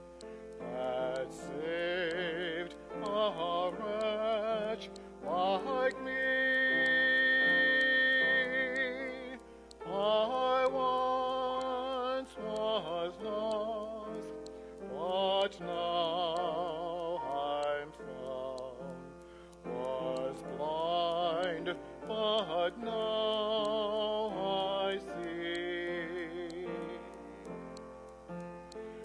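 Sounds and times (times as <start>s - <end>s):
person singing operatic hymn: 0.5s - 27.7s.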